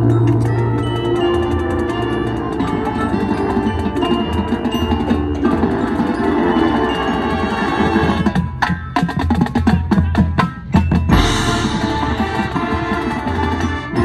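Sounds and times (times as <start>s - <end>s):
marching band playing: 0.0s - 14.0s
rapid percussion strikes: 0.0s - 14.0s.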